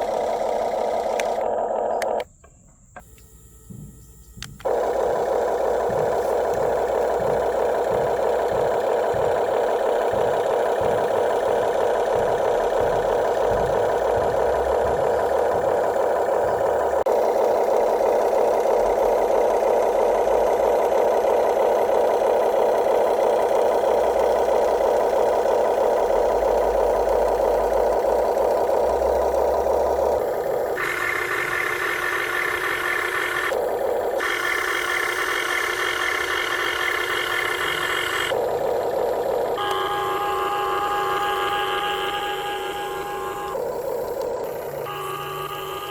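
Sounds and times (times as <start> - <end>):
electric motors whirring: 0.0 - 45.9.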